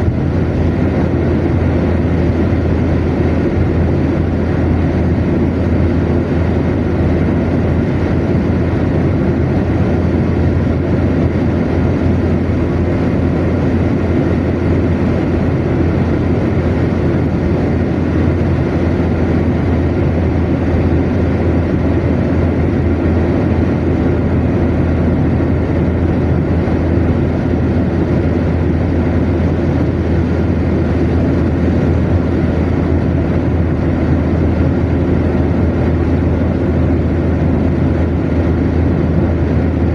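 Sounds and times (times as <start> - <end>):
car cruising road noise: 0.0 - 39.9.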